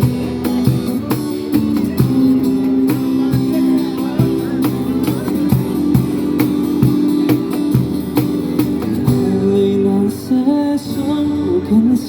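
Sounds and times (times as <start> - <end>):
steady drum beat: 0.0 - 9.8
strummed guitar: 0.0 - 12.0.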